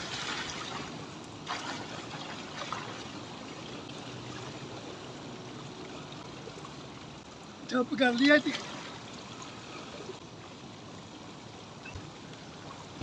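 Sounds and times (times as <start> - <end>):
pool water lapping and trickling: 0.0 - 13.0.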